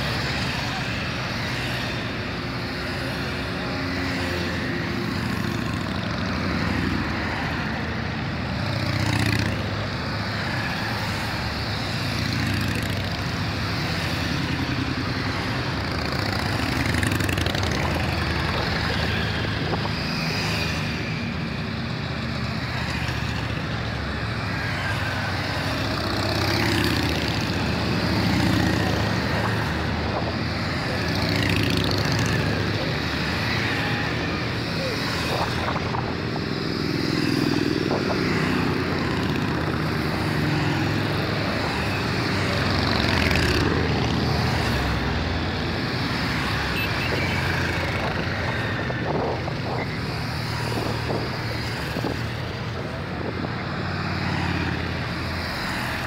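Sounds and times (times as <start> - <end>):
motorcycles riding past: 0.0 - 56.0.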